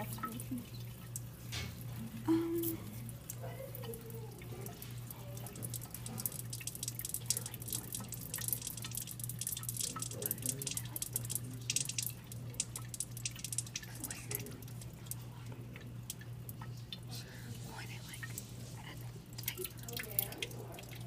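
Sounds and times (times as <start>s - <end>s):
steady low hum: 0.0s - 21.0s
water dripping into a sink: 0.0s - 21.0s.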